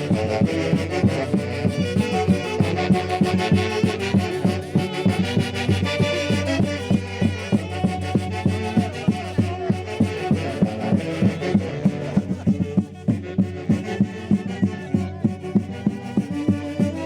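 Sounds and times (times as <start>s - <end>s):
folk band melody: 0.0s - 17.0s
steady drum beat: 0.0s - 17.0s.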